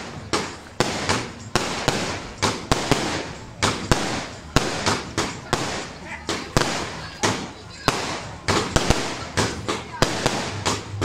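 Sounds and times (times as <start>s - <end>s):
firework hiss: 0.0s - 11.0s
firework shells bursting: 0.0s - 11.0s.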